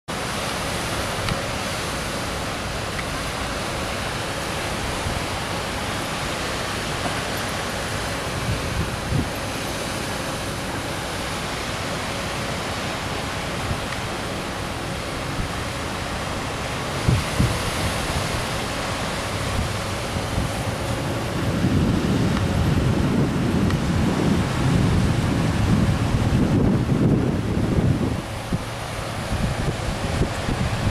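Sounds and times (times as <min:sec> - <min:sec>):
wind: 0:00.0 - 0:30.9
distant beach surf: 0:00.1 - 0:30.9
wind buffeting microphone: 0:00.4 - 0:30.9.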